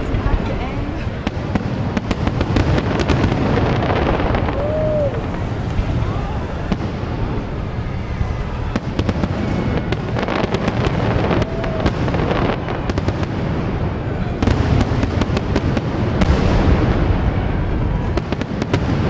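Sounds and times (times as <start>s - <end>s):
fireworks crackling bangs: 0.0s - 19.0s
low rumble of booms: 2.0s - 19.0s.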